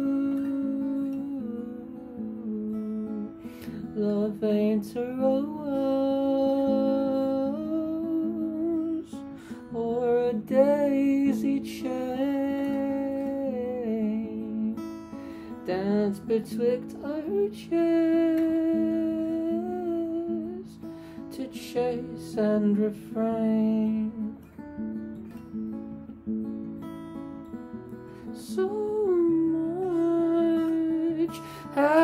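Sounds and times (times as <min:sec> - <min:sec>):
wordless vocal melody: 0:00.0 - 0:25.4, 0:28.1 - 0:32.0
acoustic guitar strumming: 0:00.0 - 0:32.0.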